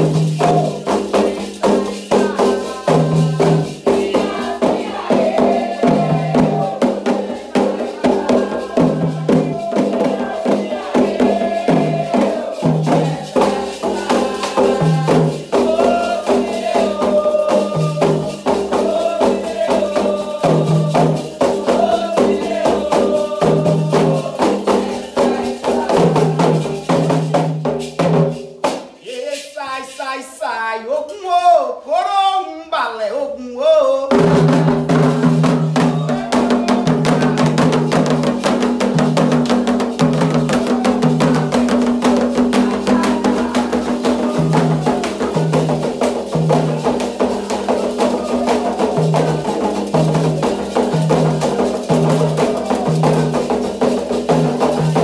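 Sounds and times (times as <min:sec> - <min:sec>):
hand drums beaten fast: 0:00.0 - 0:29.5, 0:34.1 - 0:55.0
rattling shakers: 0:00.0 - 0:31.4, 0:34.2 - 0:55.0.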